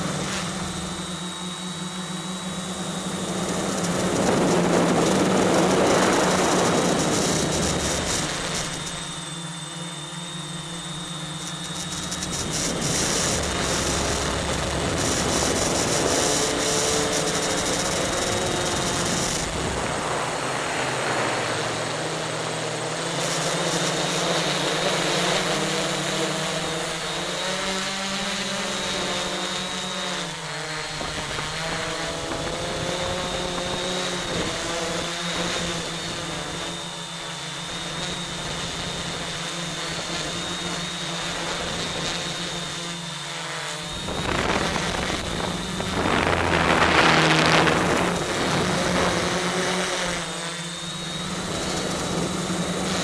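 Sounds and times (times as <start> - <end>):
drone propellers buzzing: 0.0 - 53.0.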